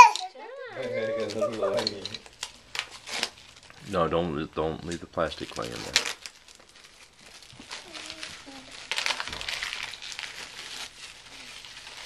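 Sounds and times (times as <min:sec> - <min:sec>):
paper and plastic crinkling: 0:00.0 - 0:12.0.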